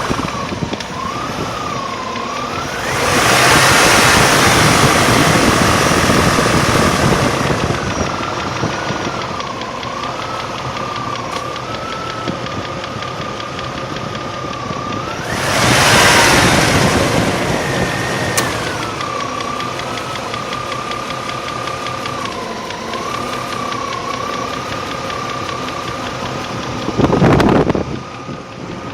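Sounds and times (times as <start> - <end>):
car engine running: 0.0 - 28.9
engine whine: 0.0 - 28.9
fast even engine ticking: 0.0 - 28.9.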